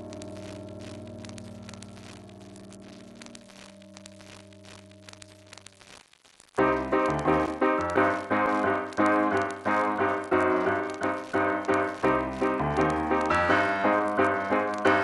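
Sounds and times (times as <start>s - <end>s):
piano music: 0.0s - 5.6s, 6.6s - 15.0s.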